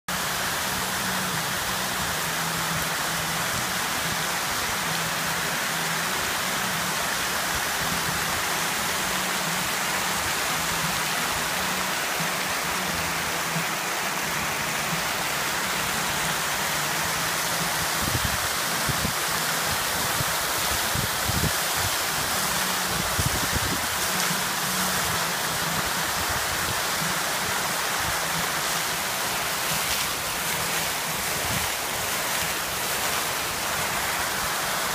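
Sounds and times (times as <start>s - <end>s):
fountain water splashing: 0.1s - 34.9s.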